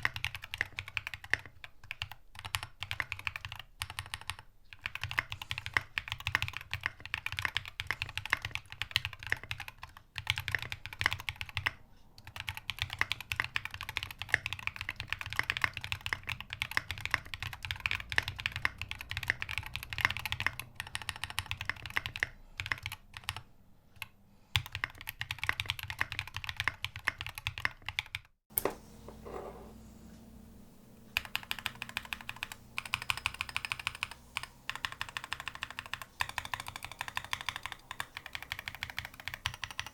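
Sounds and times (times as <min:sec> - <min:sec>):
mechanical keyboard typing: 0:00.0 - 0:23.4, 0:24.0 - 0:28.8, 0:31.2 - 0:39.9.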